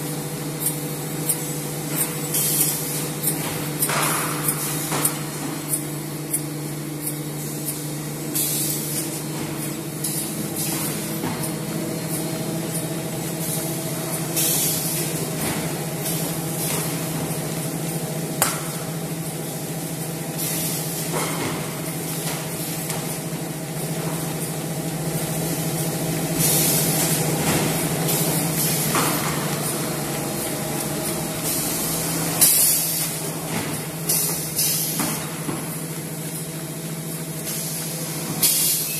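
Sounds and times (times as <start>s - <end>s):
machine motor hum: 0.0s - 38.4s
machine hiss: 0.0s - 38.9s.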